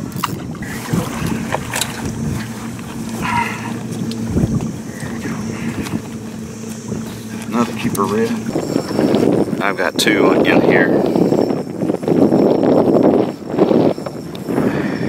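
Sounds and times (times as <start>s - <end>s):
low mechanical hum: 0.0s - 15.0s
wind buffeting microphone: 0.0s - 15.0s.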